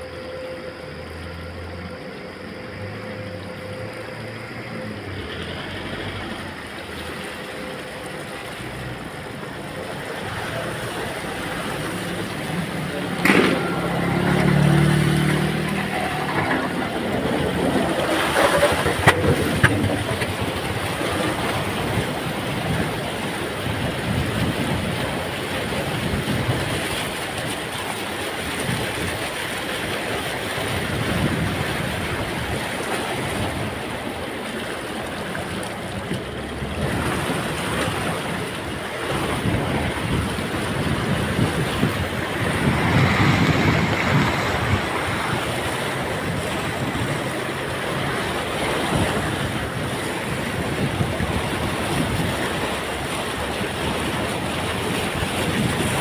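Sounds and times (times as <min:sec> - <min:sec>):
water sloshing around vehicle: 0:00.0 - 0:56.0
wind buffeting microphone: 0:08.6 - 0:56.0.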